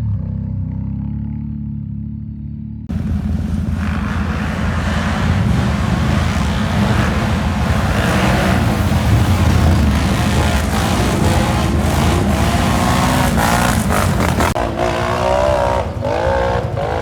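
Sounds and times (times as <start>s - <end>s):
quad bike engine: 0.0s - 17.0s.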